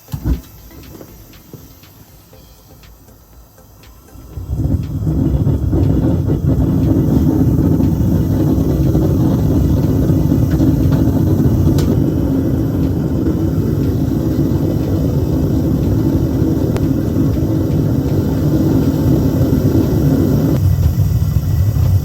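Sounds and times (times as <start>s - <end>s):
furnace rumbling: 0.0s - 22.0s
humming: 0.0s - 22.0s.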